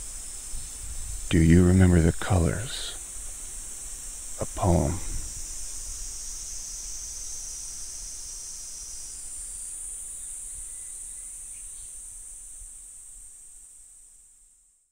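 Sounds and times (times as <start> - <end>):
cicadas droning: 0.0 - 14.7.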